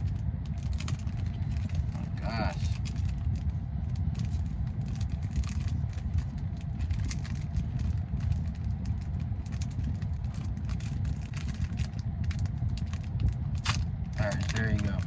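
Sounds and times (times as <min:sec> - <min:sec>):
low rumble: 0:00.0 - 0:15.0
foil wrapper crinkling: 0:00.1 - 0:15.0.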